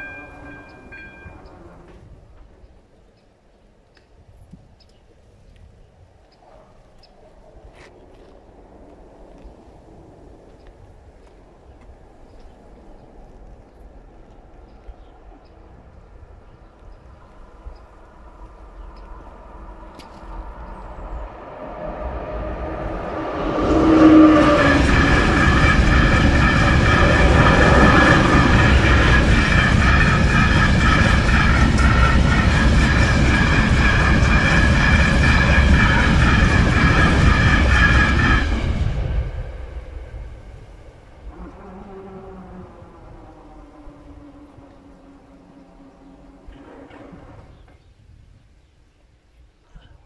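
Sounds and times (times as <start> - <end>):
train wheels on rails: 0.0 - 3.4, 7.6 - 47.8
freight train passing: 0.0 - 3.7, 7.1 - 47.7.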